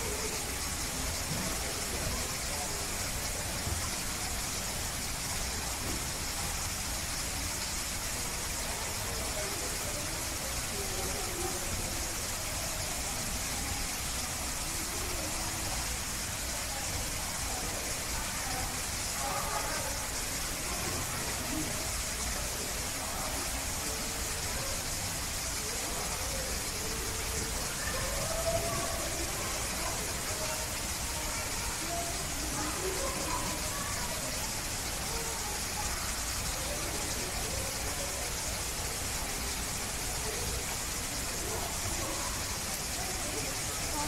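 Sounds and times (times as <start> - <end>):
faint voices talking: 0.0 - 44.0
steady hiss: 0.0 - 44.0.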